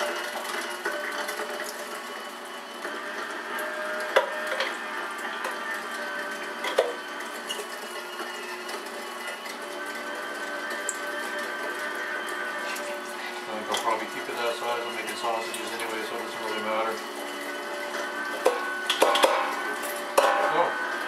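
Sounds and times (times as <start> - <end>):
meat grinder motor whine: 0.0 - 21.0.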